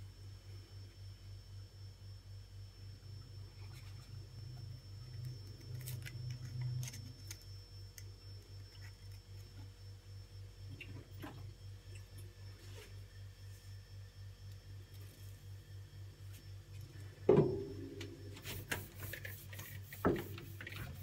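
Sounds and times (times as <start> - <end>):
low pulsing hum: 0.0 - 21.0.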